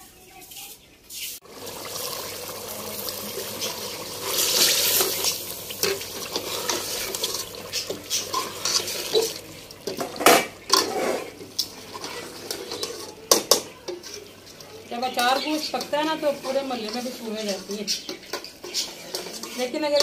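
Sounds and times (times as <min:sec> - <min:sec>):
ladle stirring thick gravy: 0:01.4 - 0:20.0.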